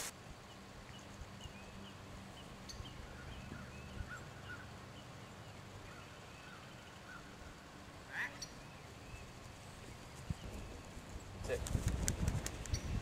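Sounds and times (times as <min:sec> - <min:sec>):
birds chirping: 0:00.4 - 0:11.0.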